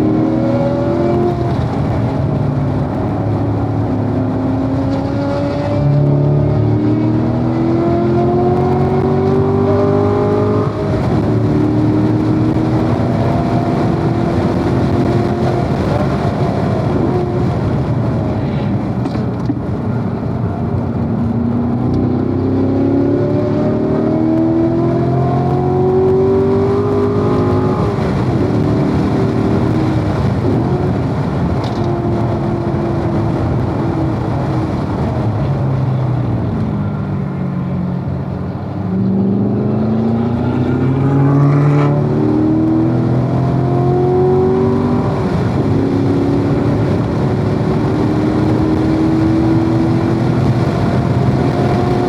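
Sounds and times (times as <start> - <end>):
car engine revving and shifting: 0.0 - 52.0
tyre and wind noise: 0.0 - 52.0.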